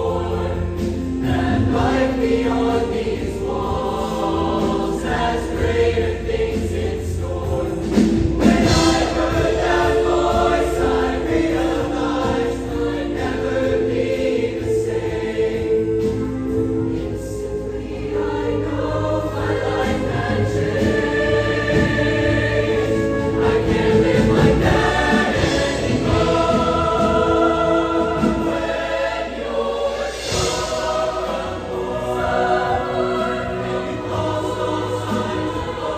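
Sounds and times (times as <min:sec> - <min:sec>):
choir singing held chords: 0:00.0 - 0:35.9
low musical accompaniment: 0:00.0 - 0:35.9.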